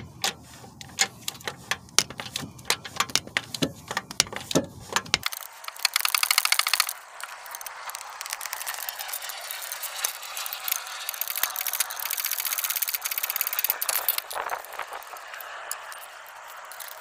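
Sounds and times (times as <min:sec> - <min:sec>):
ratchet wrench clicking: 0:00.0 - 0:17.0.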